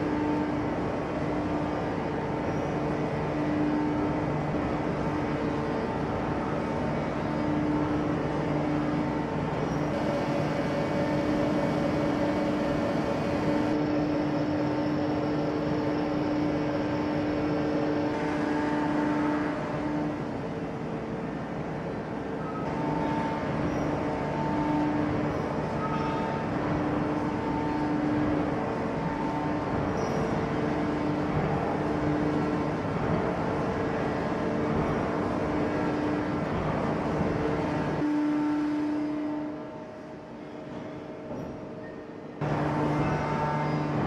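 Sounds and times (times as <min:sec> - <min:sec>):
heavy machinery droning: 0:00.0 - 0:20.9, 0:22.5 - 0:40.8, 0:42.4 - 0:44.0.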